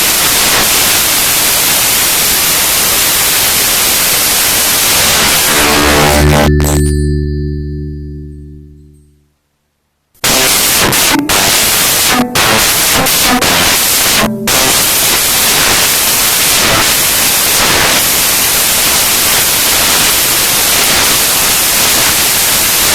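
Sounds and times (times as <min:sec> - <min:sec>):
loud static hiss: 0:00.0 - 0:06.9, 0:09.4 - 0:22.9.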